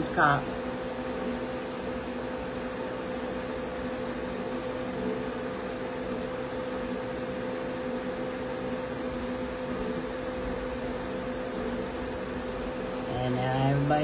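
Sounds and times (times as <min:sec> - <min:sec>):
steady droning hum: 0:00.0 - 0:14.0.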